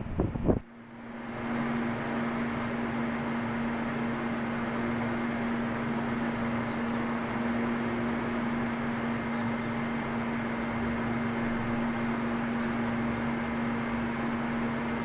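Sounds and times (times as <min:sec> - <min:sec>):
electric fan air whoosh: 0:00.0 - 0:15.0
fan motor hum: 0:00.0 - 0:15.0.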